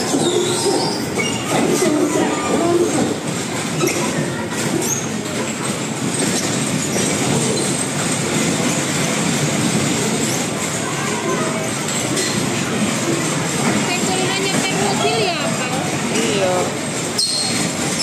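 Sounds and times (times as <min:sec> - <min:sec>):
bumper cars rolling: 0:00.0 - 0:18.0.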